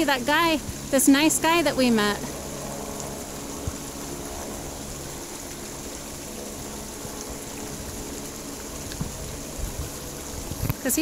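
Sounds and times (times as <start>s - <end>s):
helicopter engine drone: 0.0s - 11.0s
waterfall rushing: 0.0s - 11.0s.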